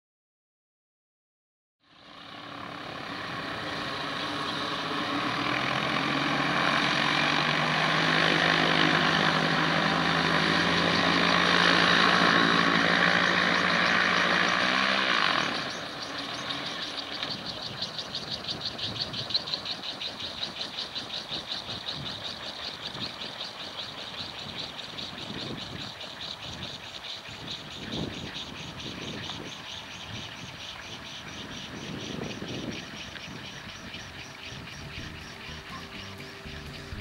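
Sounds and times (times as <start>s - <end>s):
gyroplane engine and propeller: 1.8s - 37.0s
regular pulsing: 2.4s - 37.0s.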